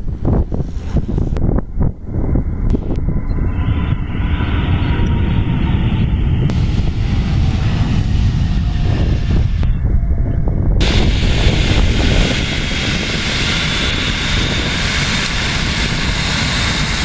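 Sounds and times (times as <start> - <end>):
jet airliner engines rumbling: 0.0 - 17.0.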